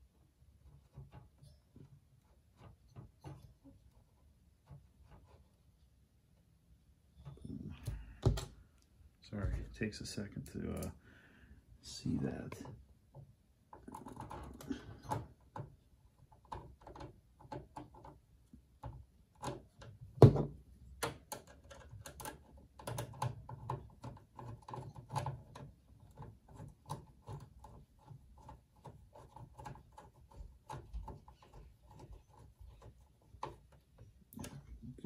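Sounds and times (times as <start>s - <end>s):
small clicks and scrapes: 0.4s - 6.5s, 11.8s - 20.2s, 20.9s - 35.0s.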